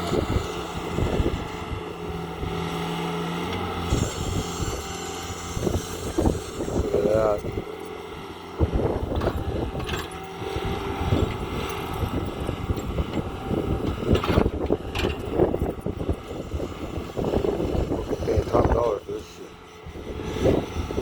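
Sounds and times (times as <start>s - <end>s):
powered auger motor hum: 0.0s - 21.0s.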